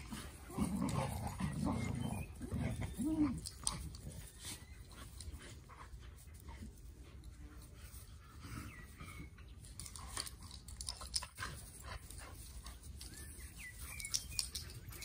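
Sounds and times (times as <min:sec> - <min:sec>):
dogs scuffling on grass: 0:00.0 - 0:15.0.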